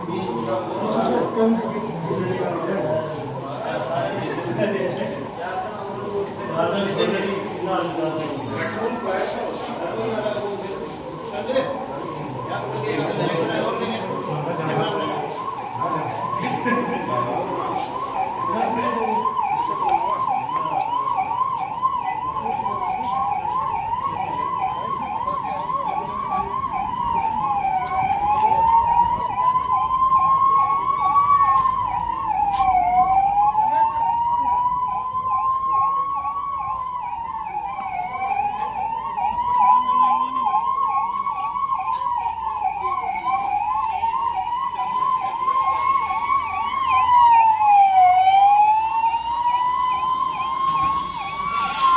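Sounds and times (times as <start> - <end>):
siren wailing: 0.0 - 51.9
siren yelping: 0.0 - 51.9.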